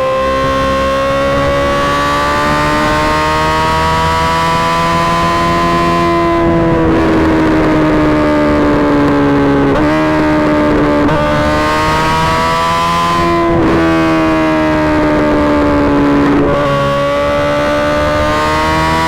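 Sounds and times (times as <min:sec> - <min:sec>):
motorcycle engine at high revs: 0:00.0 - 0:19.0.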